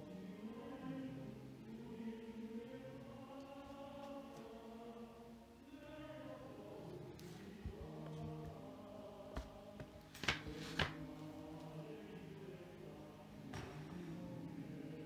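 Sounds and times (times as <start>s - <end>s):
voices singing a hymn: 0.0s - 15.0s.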